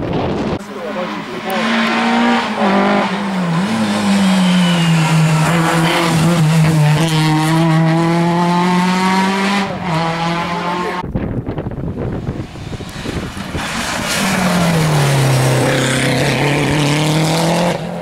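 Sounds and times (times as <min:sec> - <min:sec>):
car engine revving high: 0:00.7 - 0:11.0, 0:12.2 - 0:18.0.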